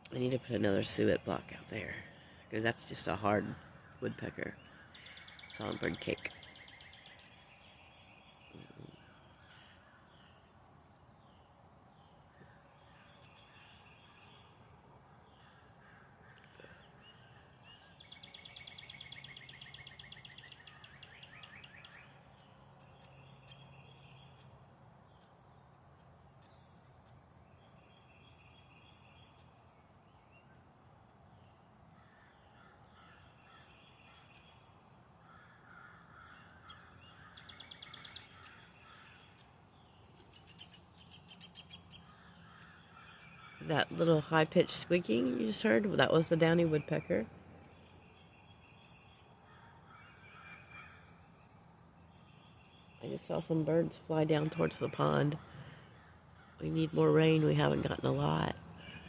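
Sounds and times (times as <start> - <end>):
faint bird calls: 1.8 - 25.6, 31.4 - 59.0.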